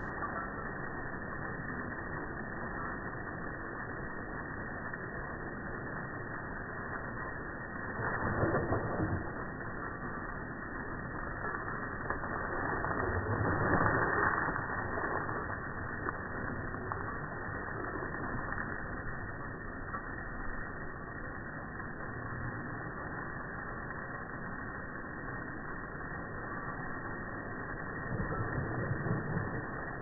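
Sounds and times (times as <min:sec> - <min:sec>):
muffled rushing hose spray: 0:00.0 - 0:30.0.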